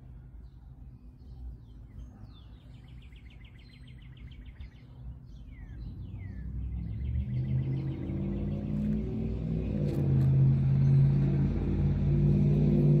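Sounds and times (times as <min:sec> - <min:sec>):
low background rumble: 0:00.0 - 0:13.0
songbird singing: 0:00.0 - 0:13.0.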